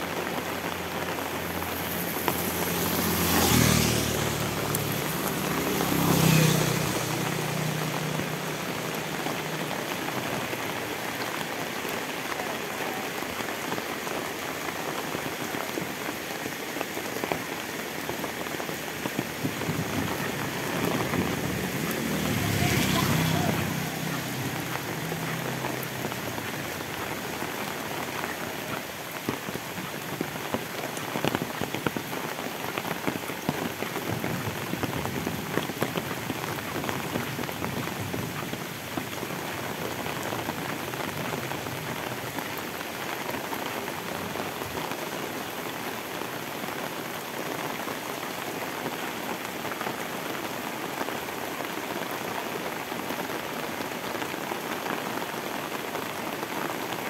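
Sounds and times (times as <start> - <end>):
heavy rain on road and foliage: 0.0 - 57.0.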